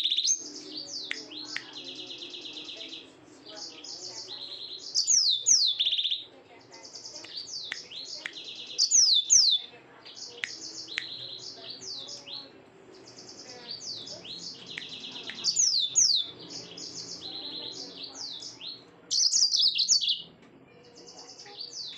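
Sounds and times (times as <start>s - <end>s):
canary singing: 0.0s - 21.9s.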